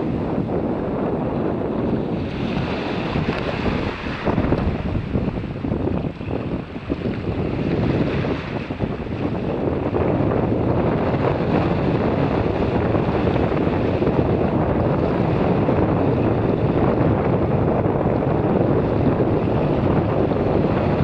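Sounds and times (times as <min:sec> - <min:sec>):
surf washing at water's edge: 0:00.0 - 0:21.0
wind noise on microphone: 0:00.0 - 0:21.0.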